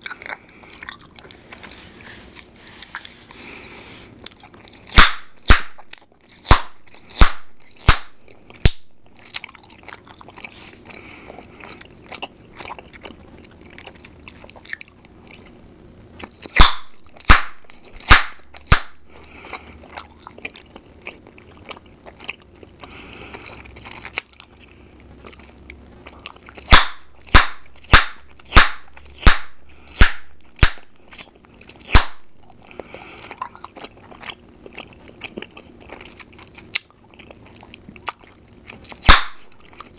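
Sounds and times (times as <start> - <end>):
chewing gum snapping and popping: 0.0 - 1.7, 4.2 - 15.6, 16.2 - 39.9
soft chewing: 0.0 - 39.9.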